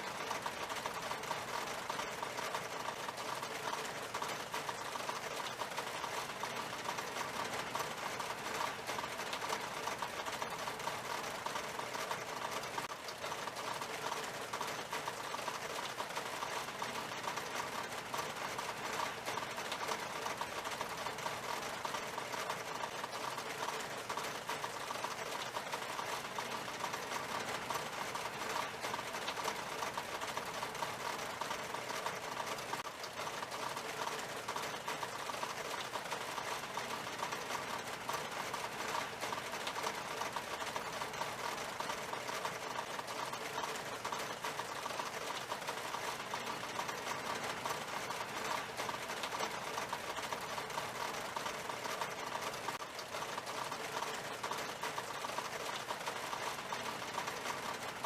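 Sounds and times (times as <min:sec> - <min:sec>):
rain on a glass window: 0:00.0 - 0:58.0.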